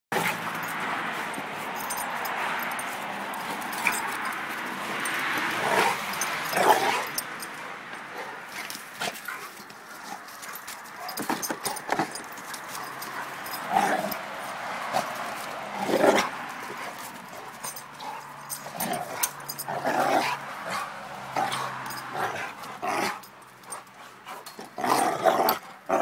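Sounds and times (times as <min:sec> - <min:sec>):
dogs wrestling and growling: 0:00.1 - 0:26.0.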